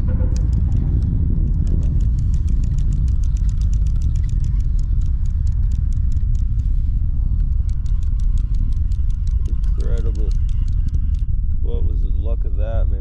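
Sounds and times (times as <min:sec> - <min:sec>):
fast even ticking: 0:00.0 - 0:11.8
deep rocket rumble: 0:00.0 - 0:13.0.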